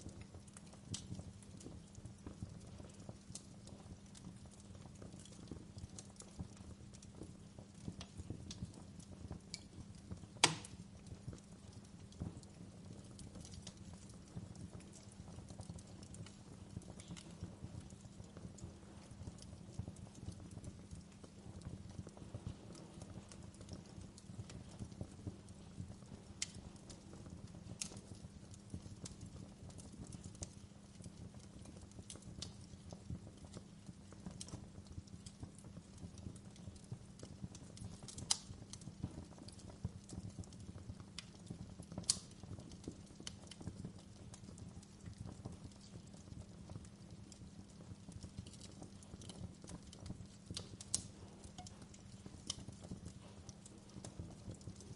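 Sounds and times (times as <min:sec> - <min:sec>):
campfire crackling: 0:00.0 - 0:54.9
fire popping: 0:00.0 - 0:54.9.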